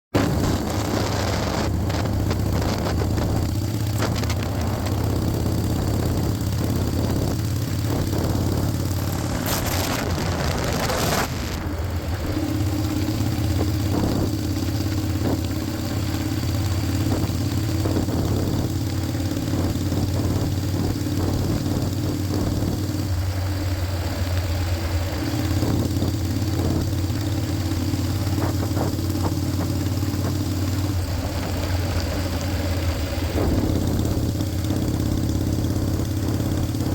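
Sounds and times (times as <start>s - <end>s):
motorcycle engine idling: 0.2s - 36.9s.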